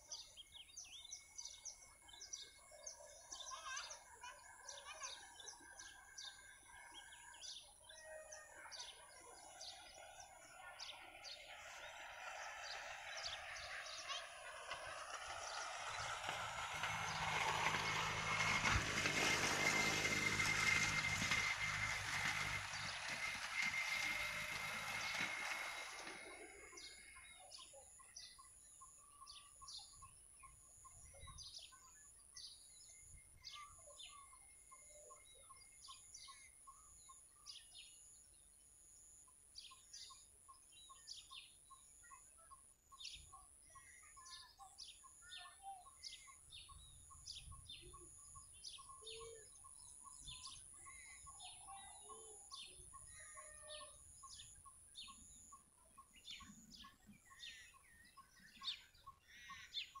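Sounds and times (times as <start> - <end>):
birds chirping: 0.0 - 38.6, 39.6 - 60.0.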